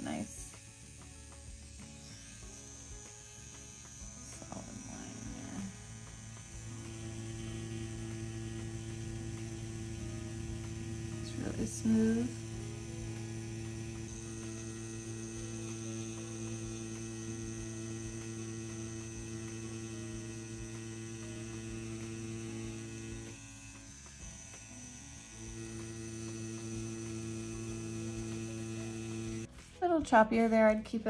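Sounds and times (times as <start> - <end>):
tattoo pen motor humming: 0.0 - 29.5.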